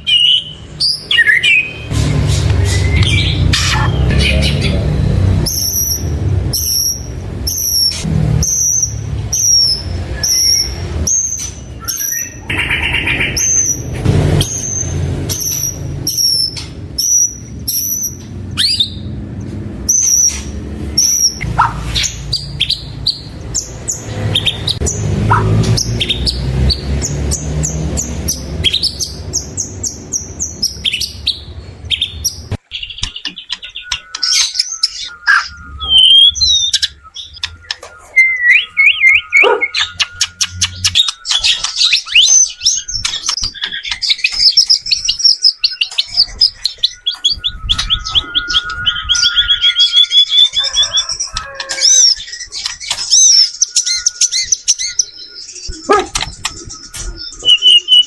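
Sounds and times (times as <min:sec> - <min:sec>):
bird singing whistled phrases: 0:00.0 - 0:01.9, 0:02.6 - 0:19.1, 0:28.0 - 0:58.0.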